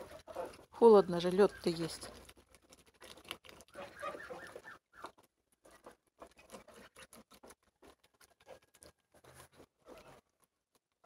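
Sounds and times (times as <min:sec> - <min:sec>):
geese bills tapping ice and water: 0:00.0 - 0:11.0.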